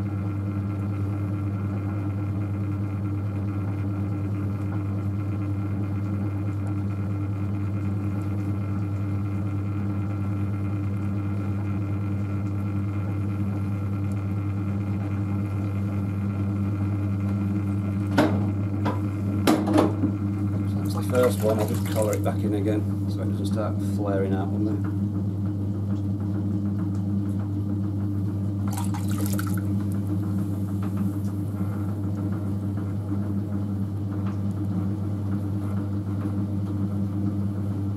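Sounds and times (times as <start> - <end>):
potter's wheel motor hum: 0.0 - 37.9.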